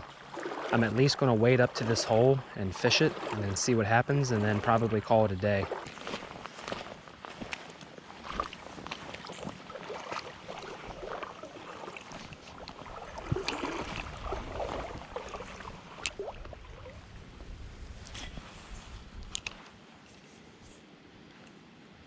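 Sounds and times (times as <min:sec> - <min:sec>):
water sloshing and splashing: 0:00.0 - 0:19.7.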